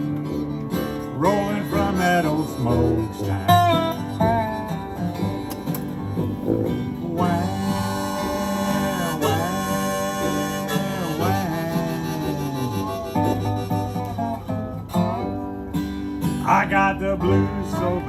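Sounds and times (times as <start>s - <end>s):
acoustic blues band playing: 0.0s - 18.0s
wailing lead line: 0.8s - 15.4s.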